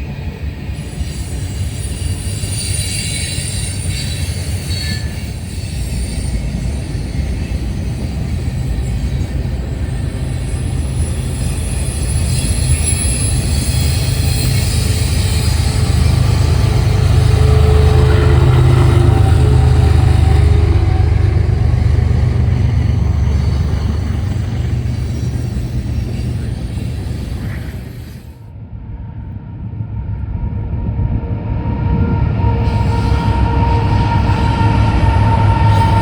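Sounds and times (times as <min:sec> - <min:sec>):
low rumble of passing train: 0:00.0 - 0:36.0.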